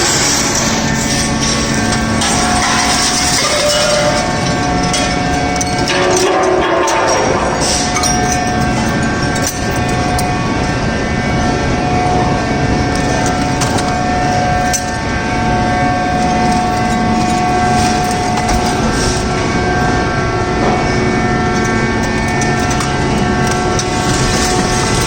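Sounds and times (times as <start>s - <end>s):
baler mechanical drone: 0.0s - 25.0s
constant machine whine: 0.0s - 25.0s.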